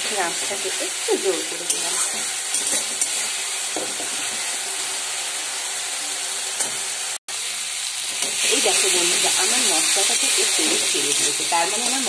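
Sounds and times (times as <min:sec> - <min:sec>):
spice paste sizzling in hot oil: 0:00.0 - 0:12.0.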